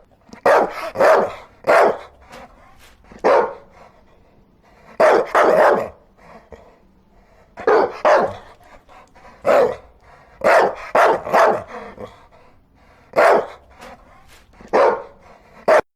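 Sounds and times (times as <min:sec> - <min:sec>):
dog barking: 0:00.0 - 0:06.8, 0:07.4 - 0:15.9.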